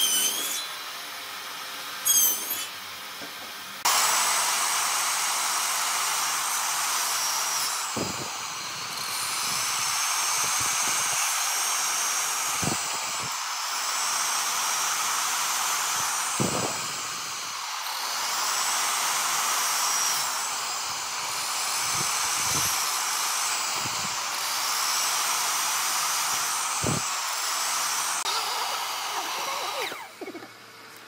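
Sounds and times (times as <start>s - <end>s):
miter saw cutting wood: 0.0s - 31.0s.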